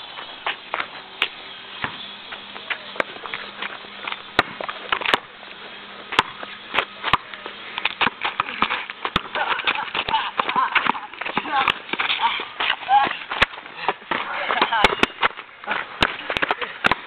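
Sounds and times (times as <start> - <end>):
faint steady hum: 0.0 - 17.0
basketball bouncing on asphalt: 0.1 - 17.0.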